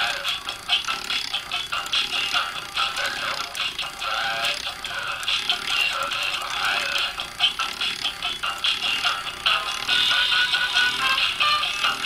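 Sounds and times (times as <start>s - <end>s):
toy mechanism clicks and rattles: 0.0s - 12.0s
toy playing song through tinny speaker: 0.0s - 12.0s.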